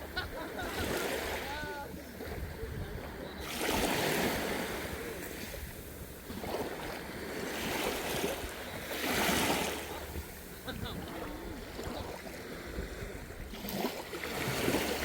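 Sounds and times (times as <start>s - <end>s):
small sea waves washing in: 0.0s - 15.0s.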